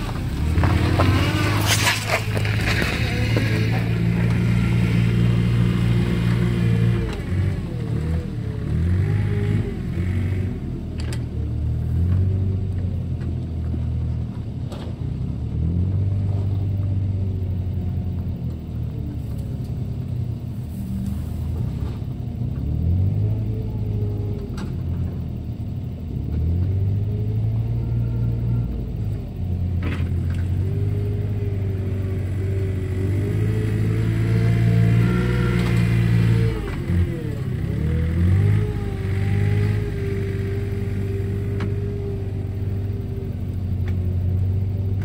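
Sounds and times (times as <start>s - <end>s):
diesel engines running: 0.0s - 45.0s.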